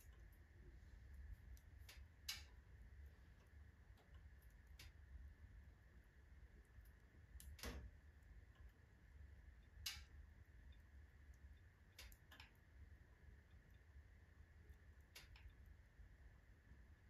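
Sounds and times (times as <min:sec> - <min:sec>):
wood fire crackling: 0:00.0 - 0:16.8
faint low hum: 0:00.0 - 0:17.0.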